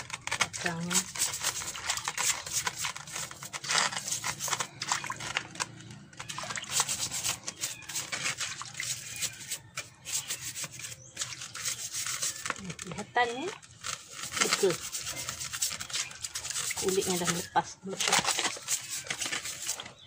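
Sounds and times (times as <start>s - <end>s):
brush scrubbing shell: 0.0s - 20.0s
water splashing and dripping: 0.3s - 20.0s.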